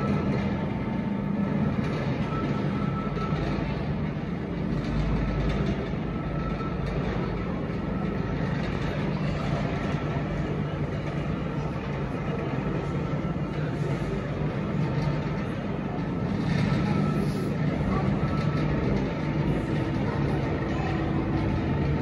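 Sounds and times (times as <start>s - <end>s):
turntable mechanical hum and rumble: 0.0s - 22.0s.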